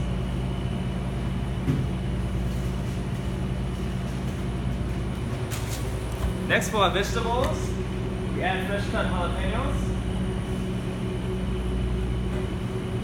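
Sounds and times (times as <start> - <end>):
kitchen machinery hum: 0.0 - 13.0.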